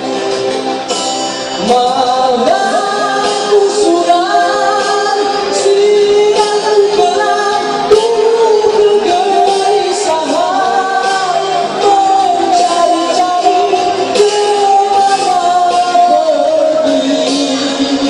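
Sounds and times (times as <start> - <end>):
loud backing music: 0.0 - 18.0
man singing into a microphone: 1.5 - 18.0.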